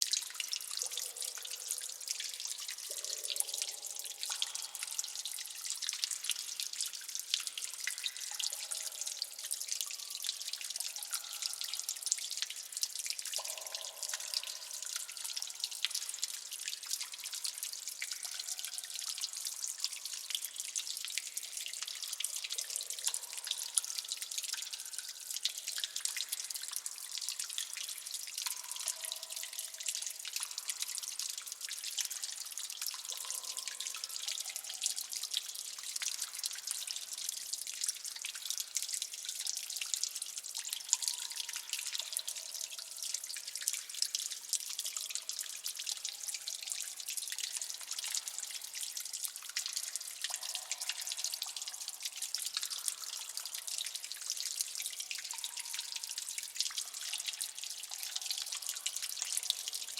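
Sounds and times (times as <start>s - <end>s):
water dripping: 0.0s - 59.9s.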